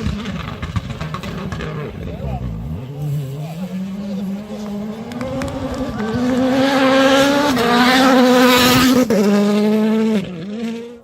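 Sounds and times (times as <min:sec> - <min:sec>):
rally car engine at full throttle: 0:00.0 - 0:11.0.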